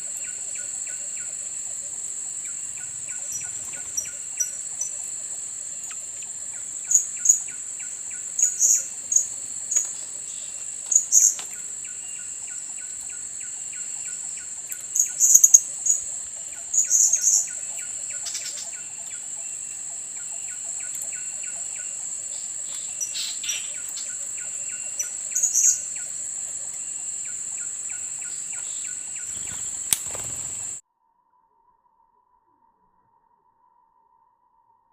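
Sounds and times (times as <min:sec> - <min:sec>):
high insect whine: 0:00.0 - 0:30.8.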